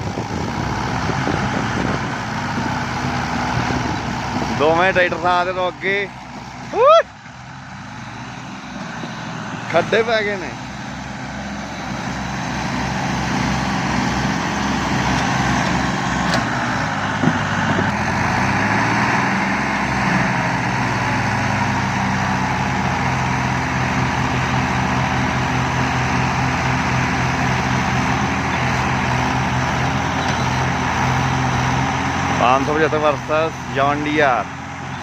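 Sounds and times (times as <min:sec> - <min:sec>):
tractor diesel engines under load: 0:00.0 - 0:35.0.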